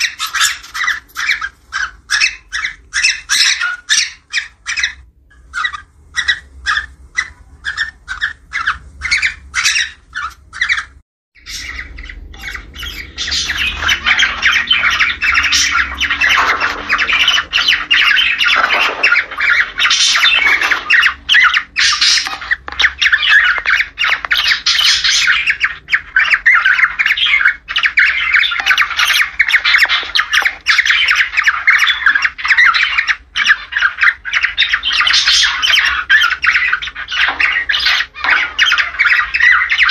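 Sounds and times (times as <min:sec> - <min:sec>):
cockatiel chattering and squawking: 0:00.0 - 0:39.9.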